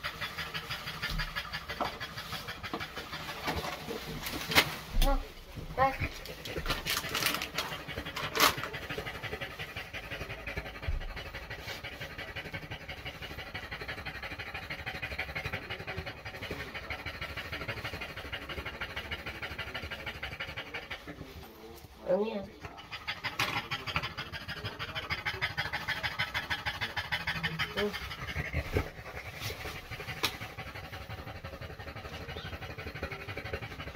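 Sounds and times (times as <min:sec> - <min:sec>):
dog panting hard: 0:00.0 - 0:33.9.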